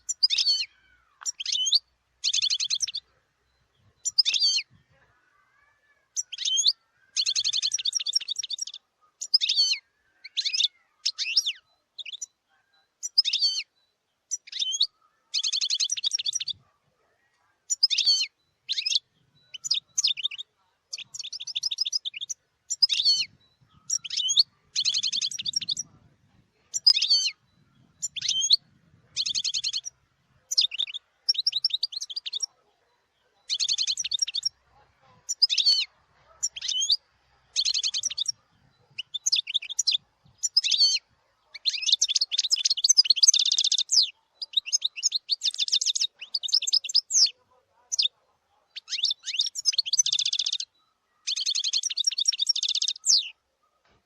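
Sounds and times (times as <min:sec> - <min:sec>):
goldfinch twittering: 0:00.0 - 0:04.7, 0:06.2 - 0:16.8, 0:17.7 - 0:32.6, 0:33.4 - 0:50.7, 0:51.3 - 0:53.4.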